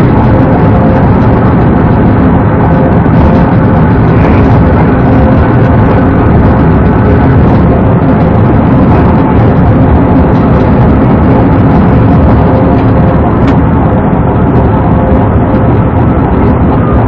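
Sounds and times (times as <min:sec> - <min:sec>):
car engine tyre and wind noise: 0:00.0 - 0:17.0.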